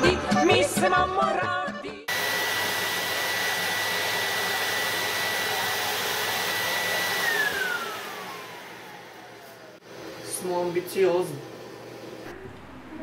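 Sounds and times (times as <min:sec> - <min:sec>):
vacuum cleaner running: 0:02.1 - 0:13.0.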